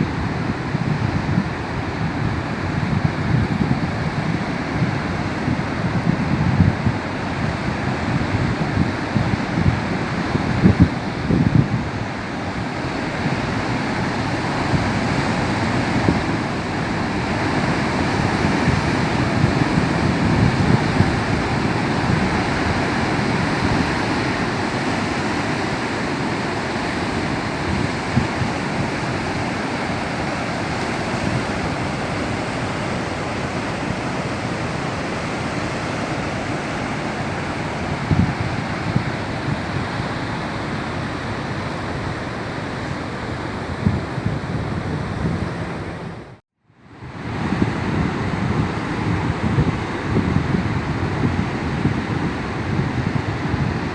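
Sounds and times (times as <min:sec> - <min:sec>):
waves breaking on coast: 0:00.0 - 0:53.9.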